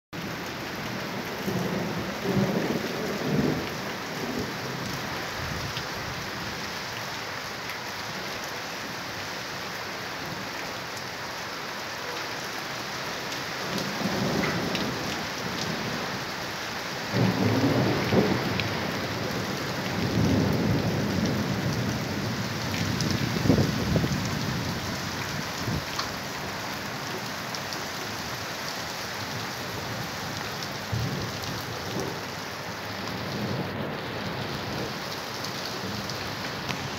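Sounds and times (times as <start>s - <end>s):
steady rain: 0.2s - 36.9s.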